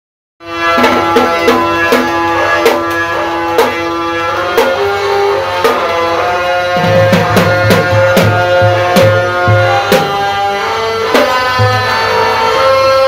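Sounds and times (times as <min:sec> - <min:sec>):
drum band music: 0:00.4 - 0:13.0.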